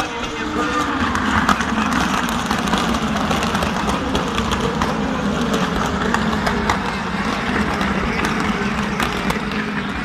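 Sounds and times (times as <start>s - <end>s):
race car engines passing: 0.0s - 10.0s.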